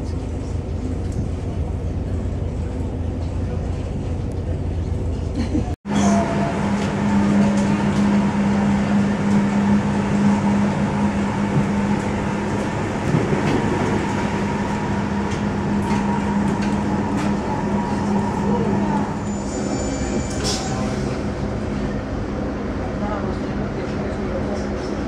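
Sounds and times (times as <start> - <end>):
train drive hum: 0.0 - 25.0
train running gear rumble: 0.0 - 25.0.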